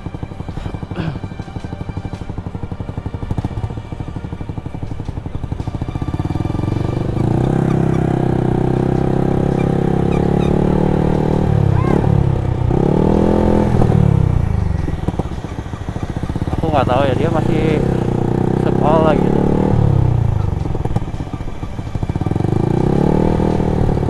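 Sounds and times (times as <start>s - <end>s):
motorcycle engine: 0.0s - 24.0s.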